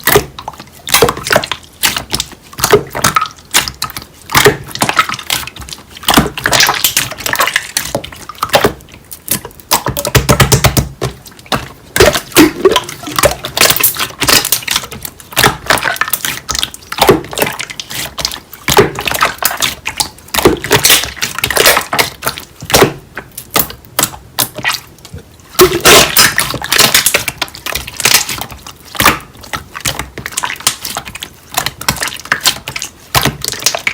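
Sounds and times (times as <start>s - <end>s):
slime squishing with sticky clicks: 0.0s - 33.9s.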